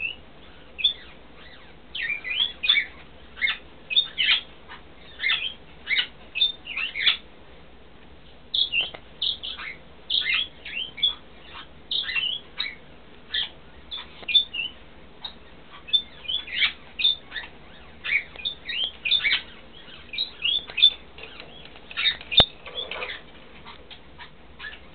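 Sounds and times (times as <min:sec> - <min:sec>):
birds chirping: 0:00.0 - 0:07.3, 0:08.3 - 0:24.9.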